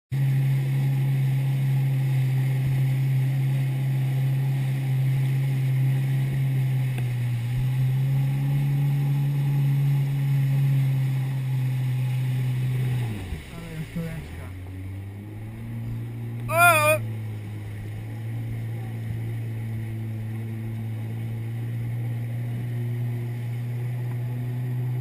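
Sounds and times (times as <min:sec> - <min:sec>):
jet ski engine running: 0:00.1 - 0:25.0.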